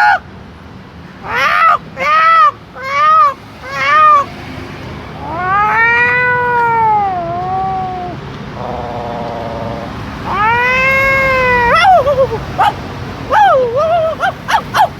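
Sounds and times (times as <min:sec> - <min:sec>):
animal cries rising and falling: 0:00.0 - 0:00.2, 0:01.2 - 0:04.3, 0:05.2 - 0:14.9.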